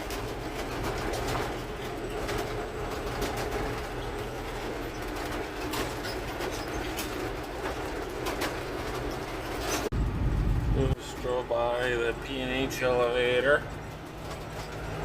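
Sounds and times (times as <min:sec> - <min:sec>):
truck diesel engine drone: 0:00.0 - 0:15.0.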